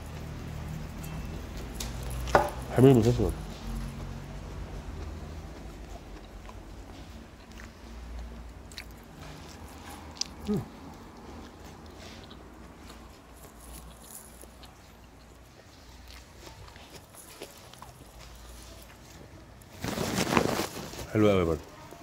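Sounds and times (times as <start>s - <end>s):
person chewing sandwich: 0.0s - 21.1s.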